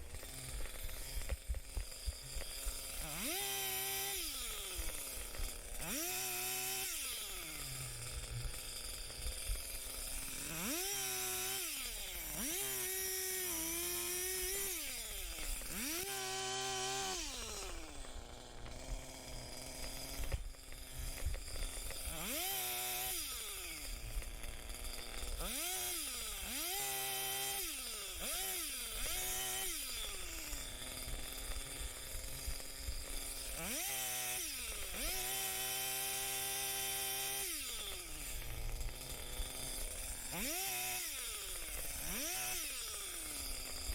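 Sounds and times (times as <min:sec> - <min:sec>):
chainsaw revving and idling: 0:00.0 - 0:43.9.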